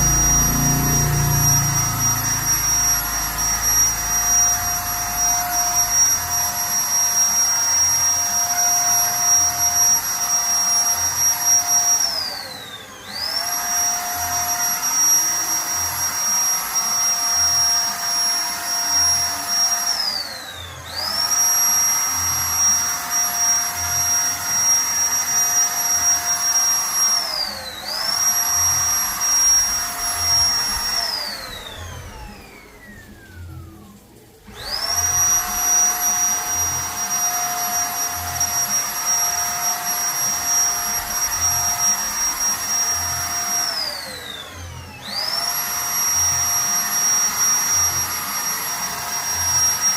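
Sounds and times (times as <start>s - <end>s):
paint spray gun motor whining: 0.0s - 49.9s.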